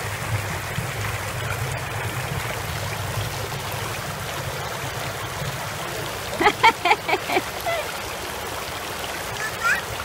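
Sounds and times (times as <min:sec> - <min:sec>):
fountain jets splashing: 0:00.0 - 0:10.0.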